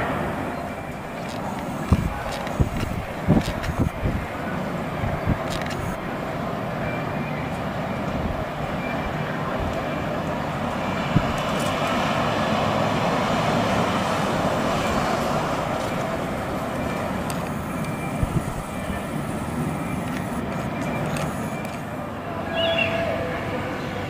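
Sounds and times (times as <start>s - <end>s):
distant jet engines rushing: 0.0s - 24.0s.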